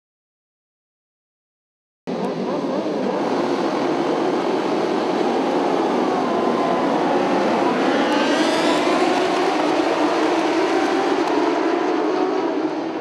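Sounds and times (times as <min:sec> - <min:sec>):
superbike engines roaring: 0:02.1 - 0:13.0.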